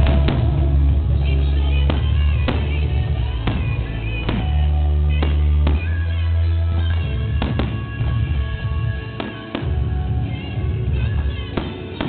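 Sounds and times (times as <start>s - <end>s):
fireworks bangs: 0.0s - 6.2s, 6.8s - 12.0s.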